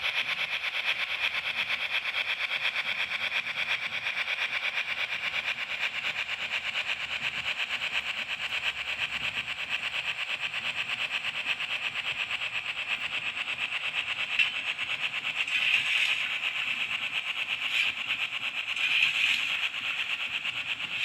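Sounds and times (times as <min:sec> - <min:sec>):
model train ticking on track: 0:00.0 - 0:21.0.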